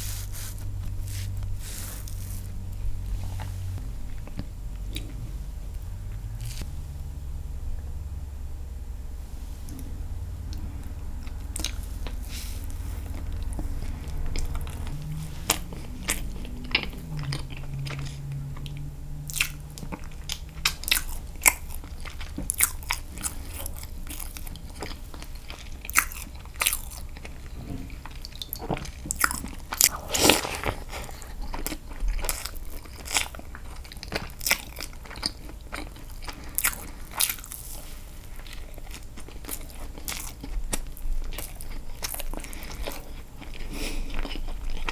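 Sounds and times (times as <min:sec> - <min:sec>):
person chewing cake: 0:00.0 - 0:06.7, 0:09.7 - 0:44.9.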